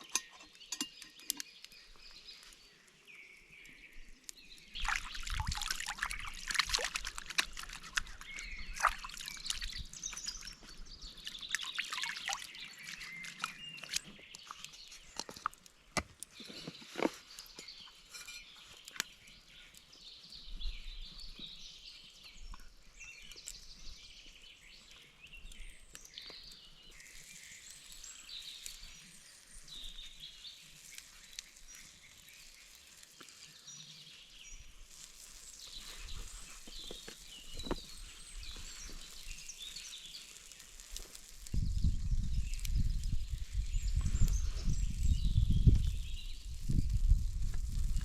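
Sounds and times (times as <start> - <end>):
birds chirping: 0.0 - 47.8.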